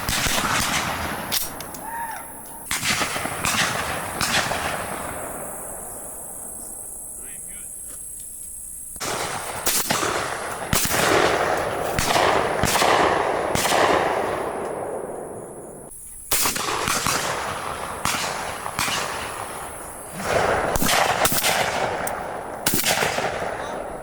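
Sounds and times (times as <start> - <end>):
shotguns firing with echo: 0.0 - 6.8, 9.0 - 24.0.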